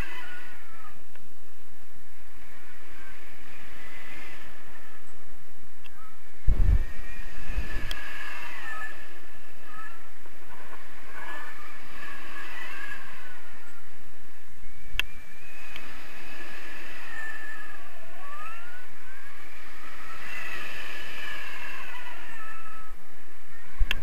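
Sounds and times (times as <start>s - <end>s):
faint sliding whistling tones: 0.0s - 24.0s
wind rushing over microphone: 0.0s - 24.0s.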